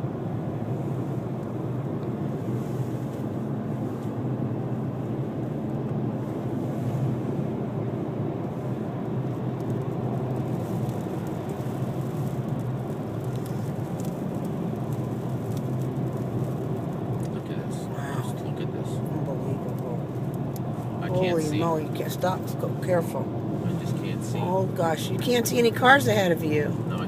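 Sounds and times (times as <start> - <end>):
road and wind rumble in a car: 0.0 - 27.0.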